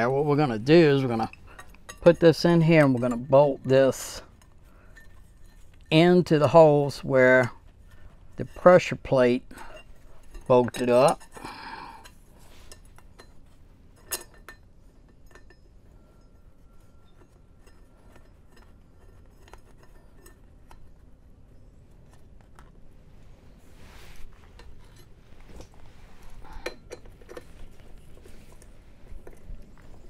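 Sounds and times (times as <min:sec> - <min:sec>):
metal clinks: 0:00.0 - 0:22.4, 0:24.5 - 0:30.0.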